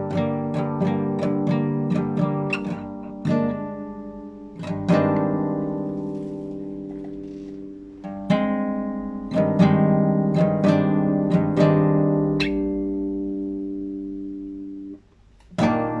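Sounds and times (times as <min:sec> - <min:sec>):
classical guitar plucked notes: 0:00.0 - 0:16.0.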